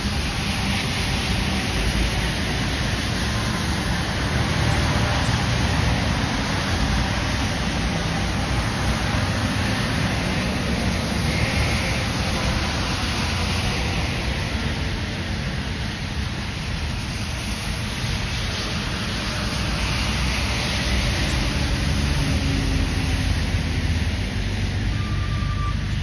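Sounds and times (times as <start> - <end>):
diesel truck engines rumbling: 0.0 - 26.0
tyres hissing on wet road: 0.0 - 26.0.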